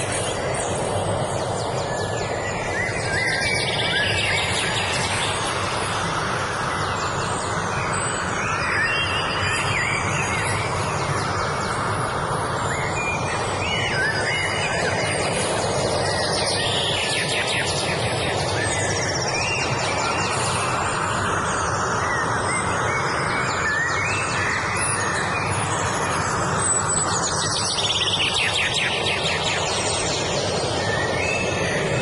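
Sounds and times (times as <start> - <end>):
songbirds singing: 0.0 - 32.0
steady rushing noise: 0.0 - 32.0.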